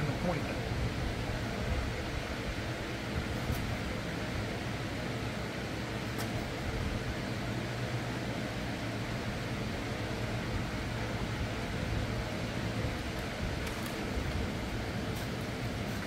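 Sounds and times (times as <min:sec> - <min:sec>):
ventilation fan whoosh: 0:00.0 - 0:16.0.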